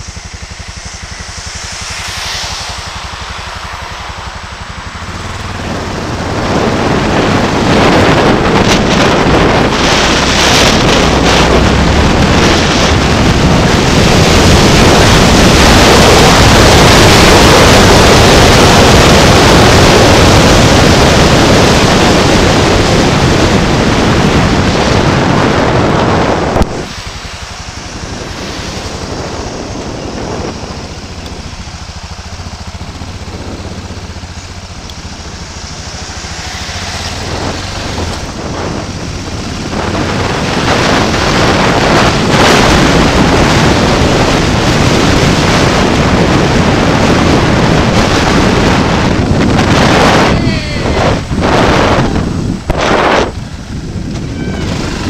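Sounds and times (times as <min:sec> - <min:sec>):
road and traffic noise: 0:00.0 - 0:55.0
wind buffeting microphone: 0:00.0 - 0:55.0.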